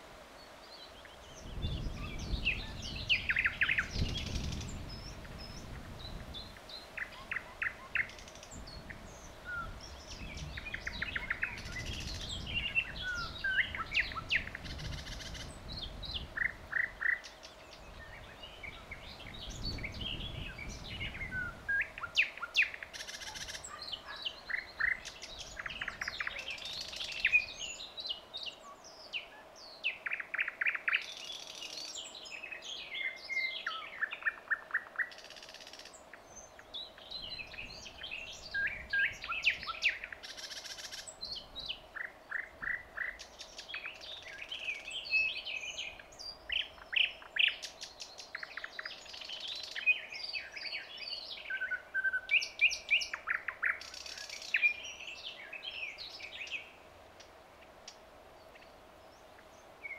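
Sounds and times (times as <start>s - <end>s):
bird singing trills: 1.1s - 56.8s.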